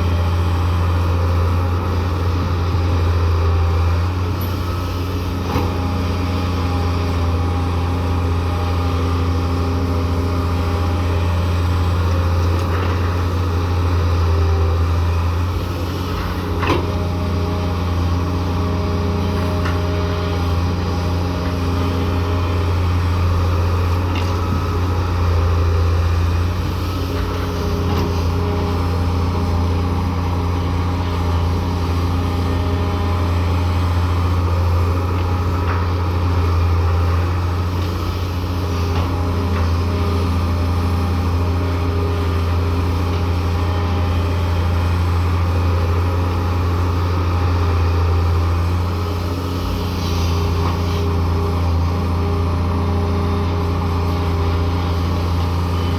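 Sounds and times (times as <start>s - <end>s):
diesel engine running under load: 0.0s - 55.9s.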